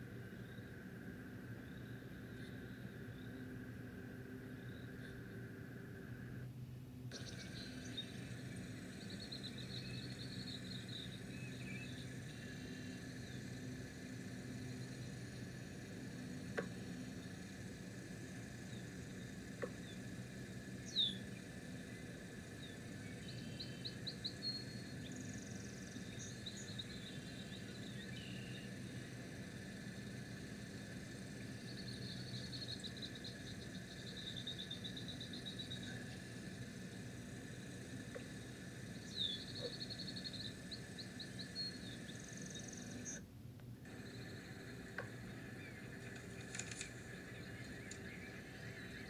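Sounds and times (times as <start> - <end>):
steady low hum: 0.0 - 49.0
high chirping birdsong: 7.1 - 43.2, 43.9 - 49.0.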